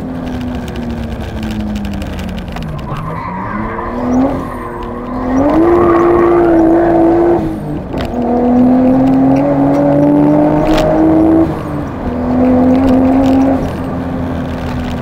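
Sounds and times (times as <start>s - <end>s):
turbocharged car engine under load: 0.0s - 15.0s.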